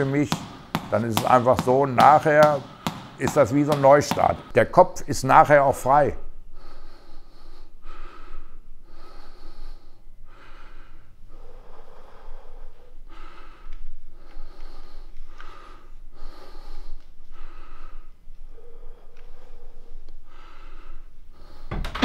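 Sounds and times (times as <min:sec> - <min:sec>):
man breathing hard: 0:00.0 - 0:04.6, 0:06.3 - 0:22.0.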